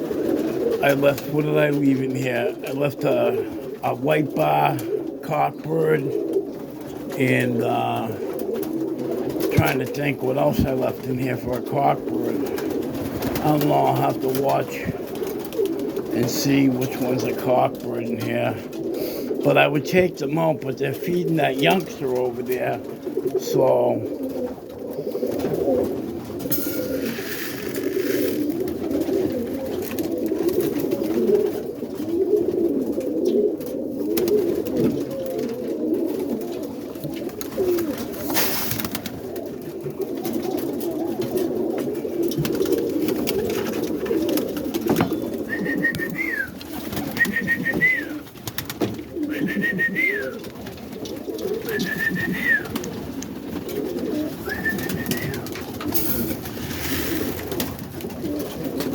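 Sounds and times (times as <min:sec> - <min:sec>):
pigeons cooing: 0:00.0 - 0:58.9.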